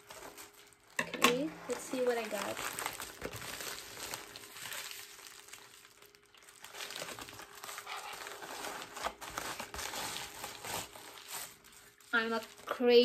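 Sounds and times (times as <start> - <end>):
padded mailer crinkling and rustling: 0.0 - 13.0.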